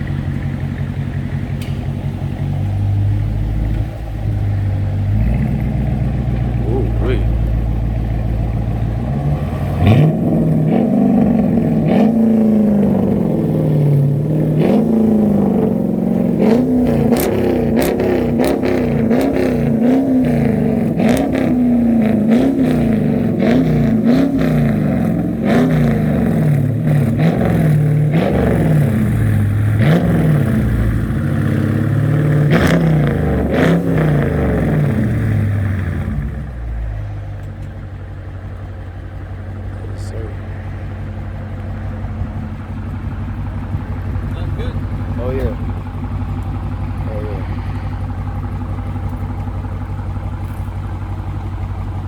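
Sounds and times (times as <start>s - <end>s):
car engine revving: 0.0s - 52.0s
exhaust cracks: 0.0s - 52.0s.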